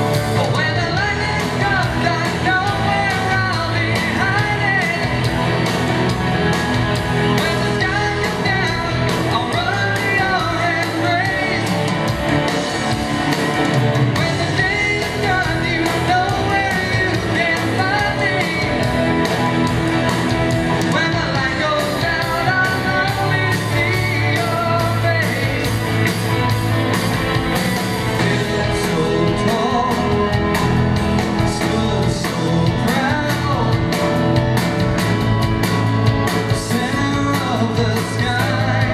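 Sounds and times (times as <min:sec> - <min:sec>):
person singing lead vocal: 0:00.0 - 0:06.2, 0:07.0 - 0:26.2, 0:27.8 - 0:34.5, 0:36.2 - 0:38.9
live rock band playing: 0:00.0 - 0:38.9.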